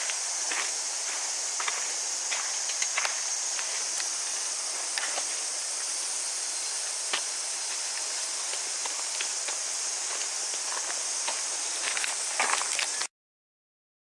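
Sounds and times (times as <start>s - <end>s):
footsteps on a path: 0.0s - 6.0s, 6.8s - 13.1s
cicada chorus: 0.0s - 13.1s.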